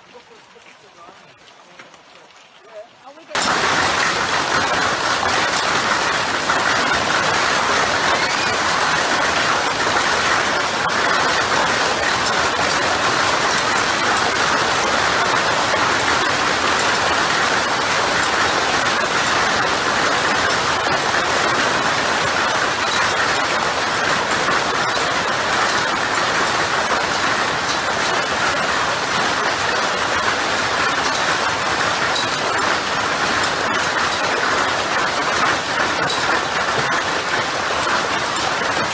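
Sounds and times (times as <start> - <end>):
hail pelting into pool and gravel: 0.0 - 38.9.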